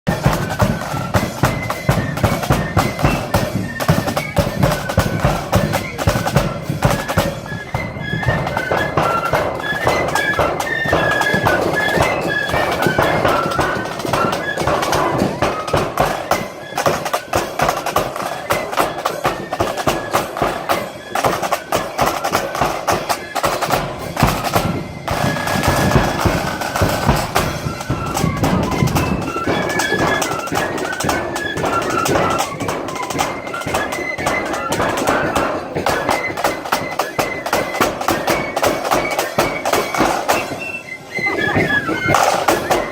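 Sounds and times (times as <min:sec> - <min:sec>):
flute band melody: 0:00.0 - 0:42.9
snare and bass drums: 0:00.1 - 0:40.6, 0:41.4 - 0:42.9.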